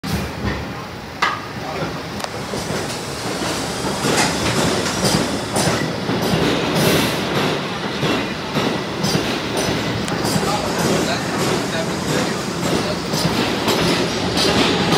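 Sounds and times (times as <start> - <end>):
subway train rumbling: 0.0 - 14.9
wheels clacking over rail joints: 2.5 - 14.9.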